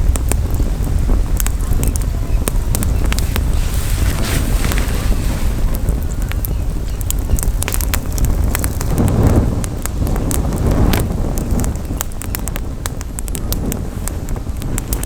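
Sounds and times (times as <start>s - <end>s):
campfire crackling and popping: 0.0s - 15.0s
wind on microphone: 0.0s - 15.0s.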